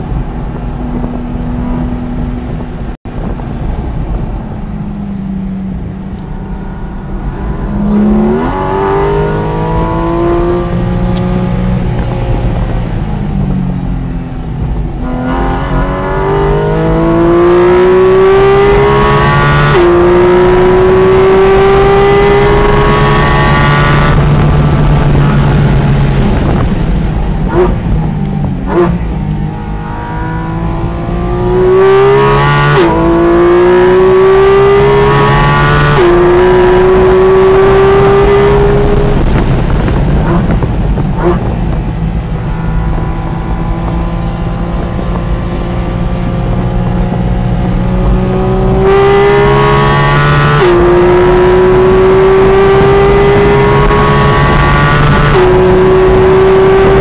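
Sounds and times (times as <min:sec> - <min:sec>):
car engine revving through gears: 0:06.1 - 0:13.1, 0:14.7 - 0:28.0, 0:28.6 - 0:57.0.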